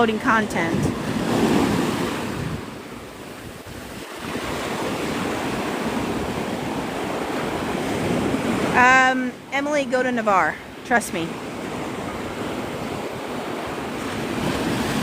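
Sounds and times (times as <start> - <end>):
wind on microphone: 0.0 - 9.0, 11.5 - 15.0
waves breaking on beach: 0.0 - 15.0.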